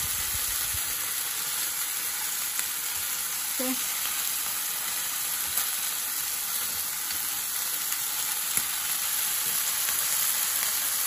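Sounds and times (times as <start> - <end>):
chicken wings sizzling in pan: 0.0 - 11.0.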